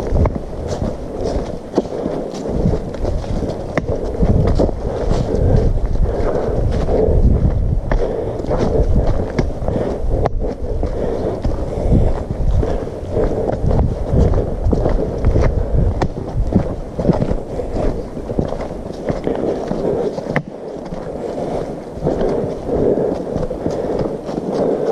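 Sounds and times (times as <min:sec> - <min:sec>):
footsteps on leafy dirt trail: 0:00.0 - 0:24.9
wind buffeting microphone: 0:00.0 - 0:24.9.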